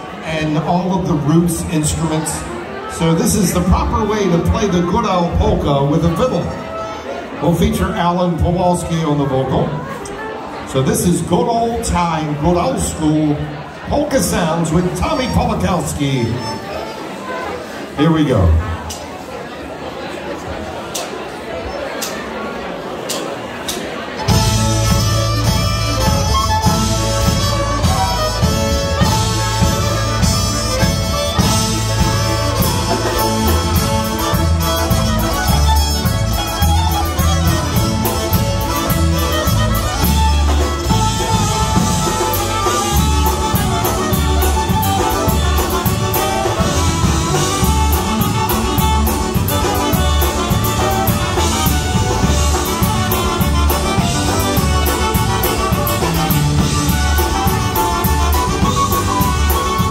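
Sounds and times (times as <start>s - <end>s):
polka band playing: 0.0s - 59.9s.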